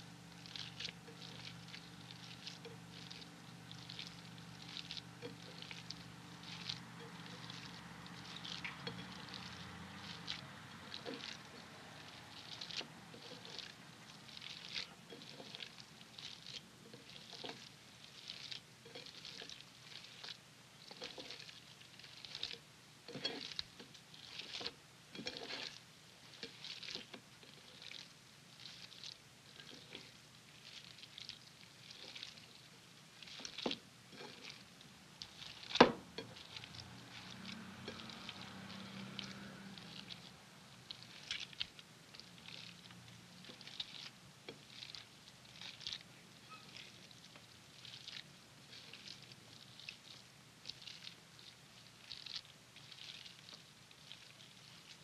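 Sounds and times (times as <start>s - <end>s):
hands squelching raw minced meat: 0.0s - 55.0s.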